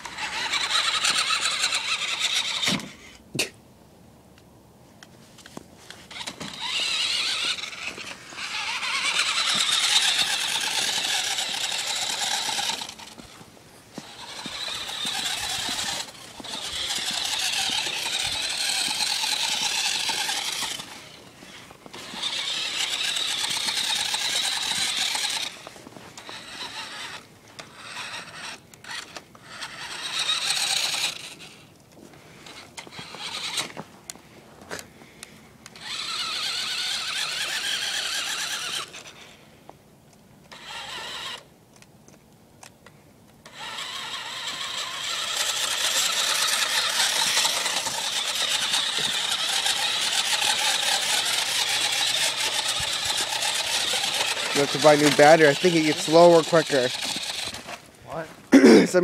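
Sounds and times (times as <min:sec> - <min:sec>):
toy electric motor whining: 0:00.0 - 0:03.2, 0:05.8 - 0:31.7, 0:32.4 - 0:33.8, 0:35.6 - 0:39.4, 0:40.5 - 0:41.5, 0:43.4 - 0:58.8.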